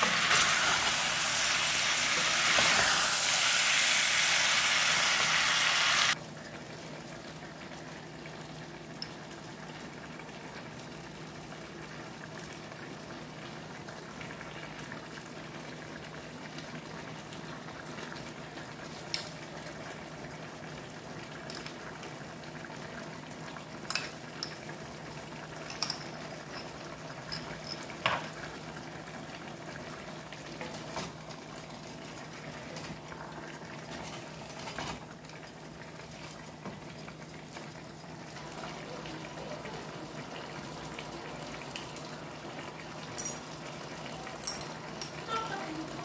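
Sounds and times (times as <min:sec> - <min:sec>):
pots of food simmering: 0:00.0 - 0:46.0.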